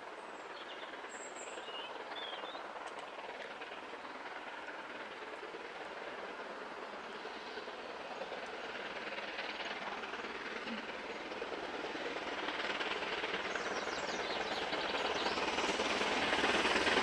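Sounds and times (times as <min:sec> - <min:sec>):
rail noise: 0:00.0 - 0:17.0
steam locomotive exhaust: 0:00.0 - 0:17.0.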